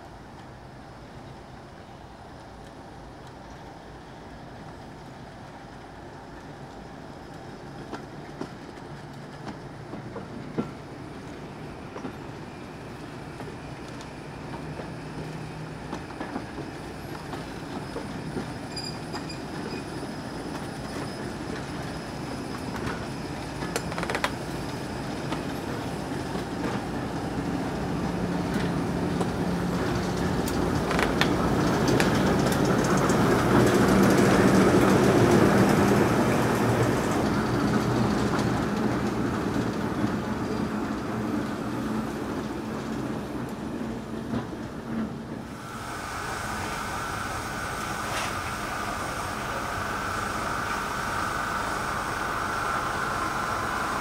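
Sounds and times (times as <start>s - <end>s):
diesel train engine hum: 0.0s - 54.0s.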